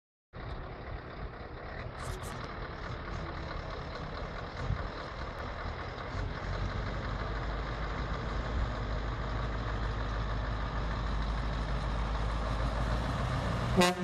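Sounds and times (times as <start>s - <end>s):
truck diesel engine running: 0.4s - 14.0s.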